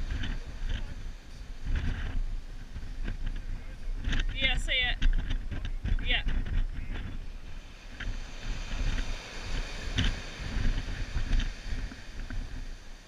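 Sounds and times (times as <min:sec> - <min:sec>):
surf breaking on a beach: 0:00.0 - 0:13.0
wind buffeting the microphone: 0:00.0 - 0:13.0.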